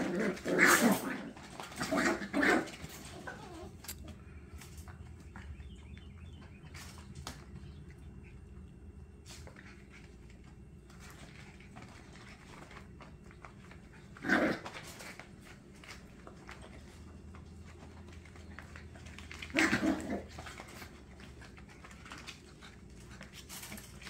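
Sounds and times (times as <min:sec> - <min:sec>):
paws scratching and rustling: 0:00.0 - 0:24.0.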